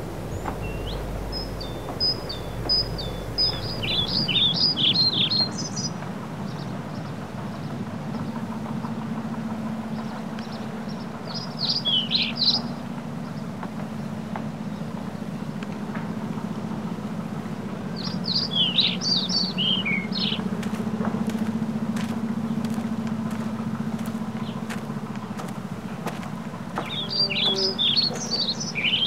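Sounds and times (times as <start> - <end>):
low steady hum: 0.0 - 29.0
songbird chirping: 0.0 - 29.0
steady background noise: 0.0 - 29.0.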